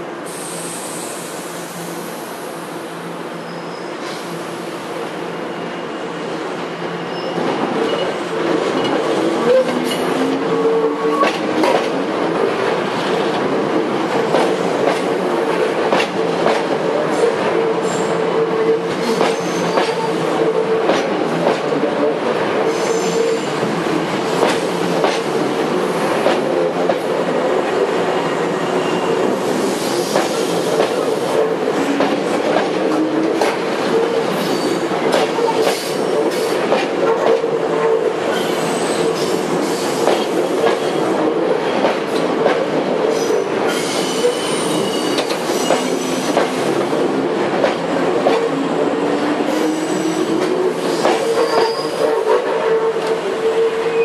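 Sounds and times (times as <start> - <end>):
wheel whine on rail: 0.0 - 54.0.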